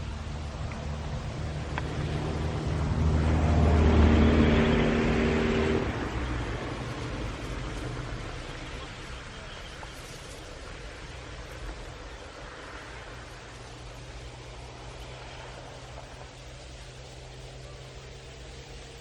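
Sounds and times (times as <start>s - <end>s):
motor vehicle passing: 0.0s - 19.0s.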